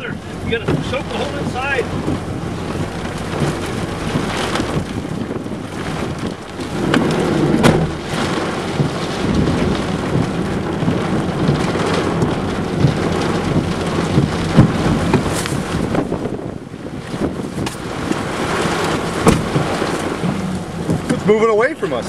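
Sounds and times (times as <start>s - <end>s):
heavy rain on a car roof: 0.0s - 22.0s.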